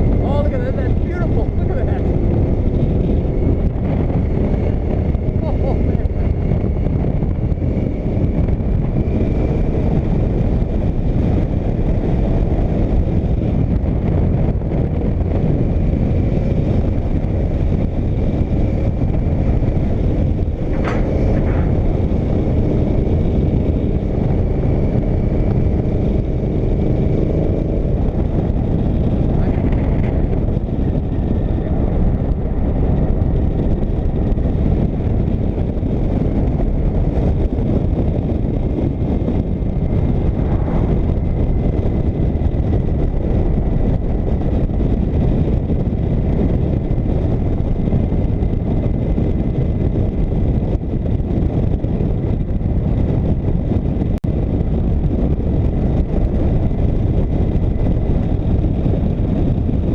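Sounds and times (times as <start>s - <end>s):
motorcycle engine drone: 0.0s - 59.9s
rushing wind: 0.0s - 59.9s.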